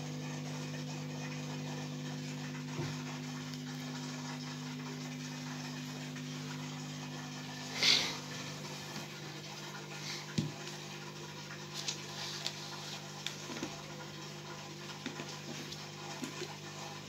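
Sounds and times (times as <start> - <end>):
aquarium equipment humming: 0.0 - 17.0.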